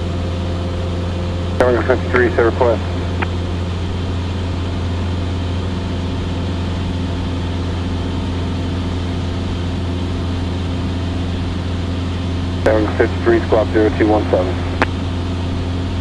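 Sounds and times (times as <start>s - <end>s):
aircraft engine and propeller droning: 0.0s - 16.0s.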